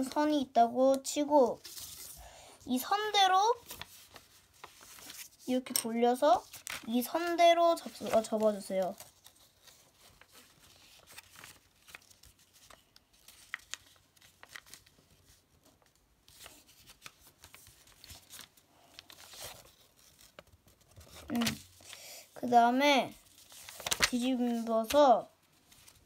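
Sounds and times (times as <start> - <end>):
paper rustling and crinkling: 1.4 - 22.4, 23.1 - 26.0
paper crackles: 1.5 - 5.5, 6.2 - 22.4, 23.1 - 26.0.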